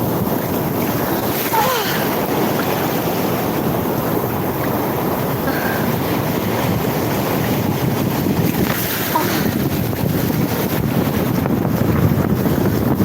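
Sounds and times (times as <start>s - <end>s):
sea surf: 0.0s - 13.0s
wind buffeting microphone: 0.0s - 13.0s.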